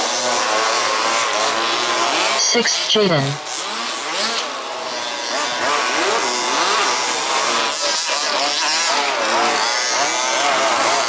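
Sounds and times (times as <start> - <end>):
small two-stroke engines revving: 0.0 - 2.4, 3.5 - 11.0.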